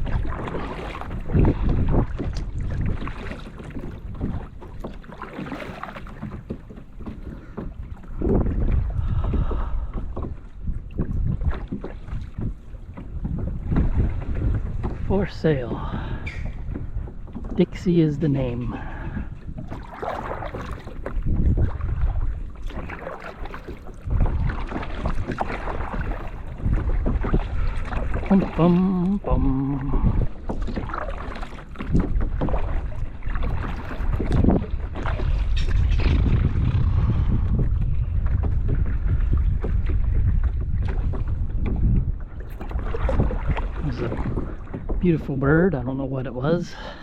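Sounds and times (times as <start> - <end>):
paddle splashing in water: 0.0 - 47.0
wind rumbling on microphone: 0.0 - 47.0.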